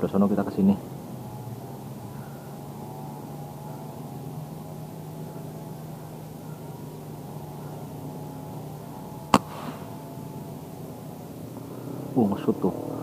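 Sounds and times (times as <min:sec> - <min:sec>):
steady engine hum: 0:00.0 - 0:13.0.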